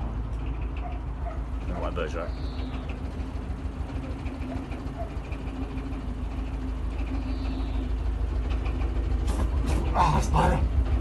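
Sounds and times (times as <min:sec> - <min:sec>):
diesel engine throbbing: 0:00.0 - 0:11.0.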